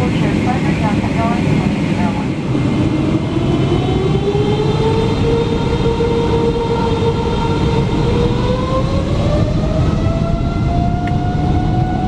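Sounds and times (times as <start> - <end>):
jet engine rushing and whining: 0.0 - 12.0.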